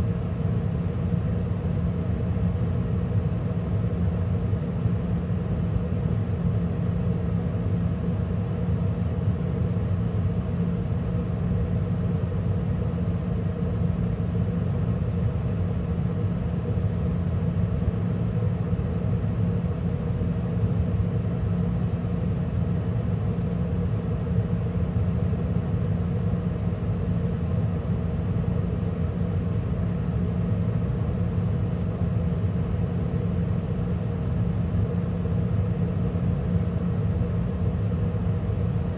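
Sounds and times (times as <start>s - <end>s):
gas furnace hum and rumble: 0.0s - 38.9s.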